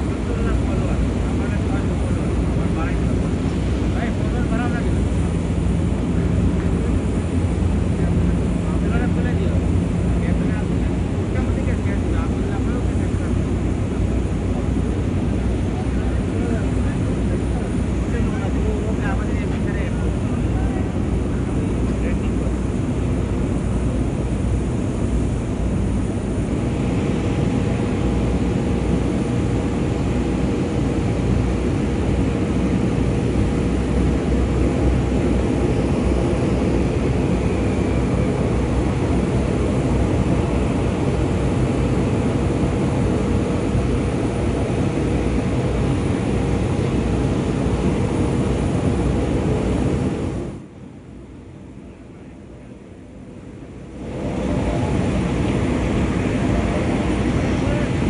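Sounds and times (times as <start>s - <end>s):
faint steady whine: 0.0s - 58.0s
jet engines rumbling: 0.0s - 58.0s.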